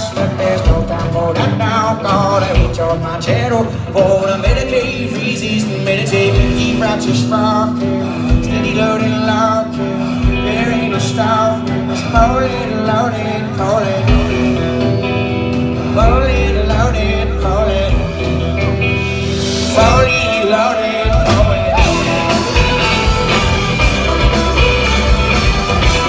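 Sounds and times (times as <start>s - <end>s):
live rock band playing: 0.0s - 26.0s
person singing lead vocal: 0.0s - 26.0s.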